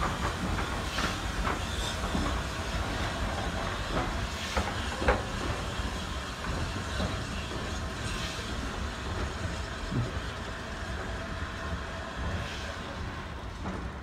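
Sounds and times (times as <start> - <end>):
train coaches rumbling: 0.0 - 14.0.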